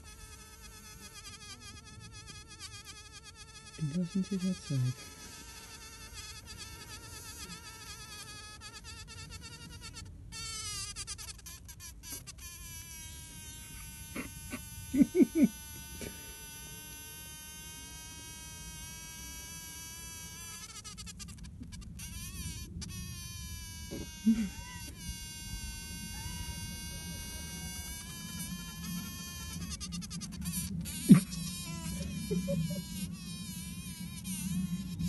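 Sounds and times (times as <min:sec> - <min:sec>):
bumblebee buzzing: 0:00.0 - 0:35.0.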